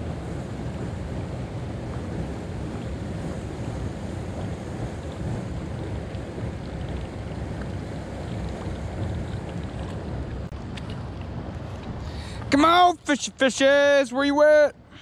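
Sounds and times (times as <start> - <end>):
wind buffeting microphone: 0.0 - 13.3
river flowing: 0.0 - 15.0.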